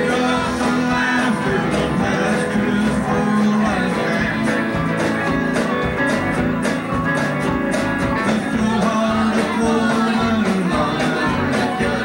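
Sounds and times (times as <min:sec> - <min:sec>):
electric guitar: 0:00.0 - 0:12.0
strummed acoustic guitar: 0:00.0 - 0:12.0.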